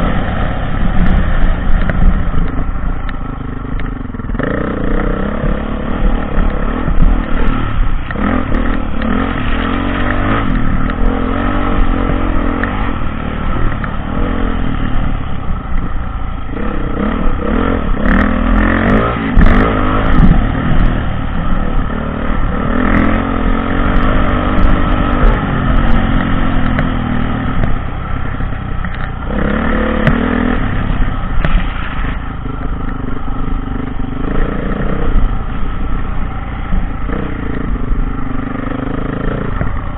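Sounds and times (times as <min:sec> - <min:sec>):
dirt bike engine revving: 0:03.8 - 0:15.6, 0:16.5 - 0:39.9.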